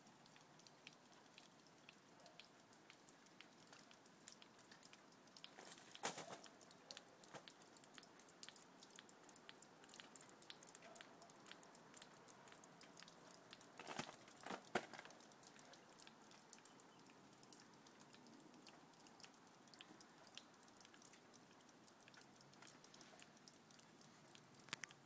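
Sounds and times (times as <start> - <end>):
water dripping: 0.0 - 25.0.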